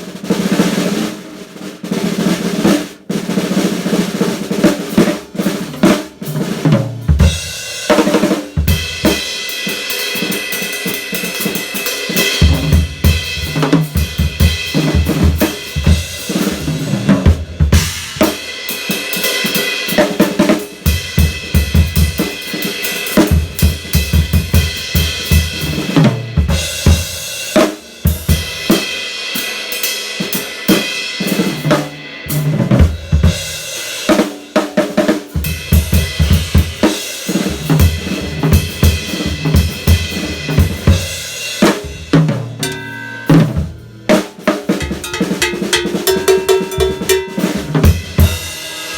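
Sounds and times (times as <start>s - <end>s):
drum kit groove: 0.0s - 48.9s.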